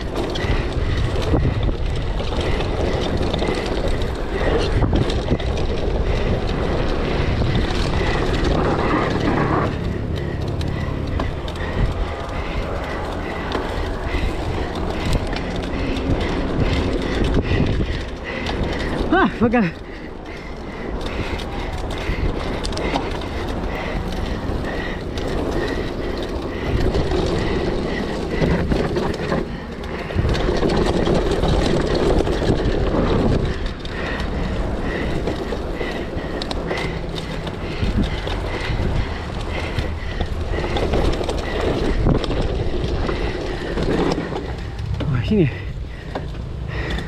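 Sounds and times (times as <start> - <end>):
bike knocking and rattling: 0.0 - 47.0
wind and tyres rumbling: 0.0 - 47.0.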